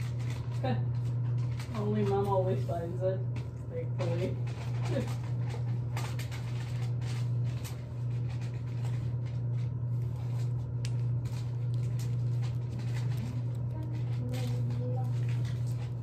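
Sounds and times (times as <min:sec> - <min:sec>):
parrot scratching on cushions: 0:00.0 - 0:03.1, 0:04.0 - 0:16.0
steady low hum: 0:00.0 - 0:16.0.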